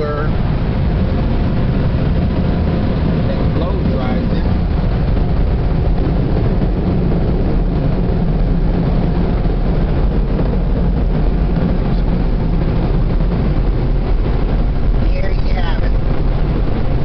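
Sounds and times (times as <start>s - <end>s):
car wash dryer blowers: 0.0s - 17.0s.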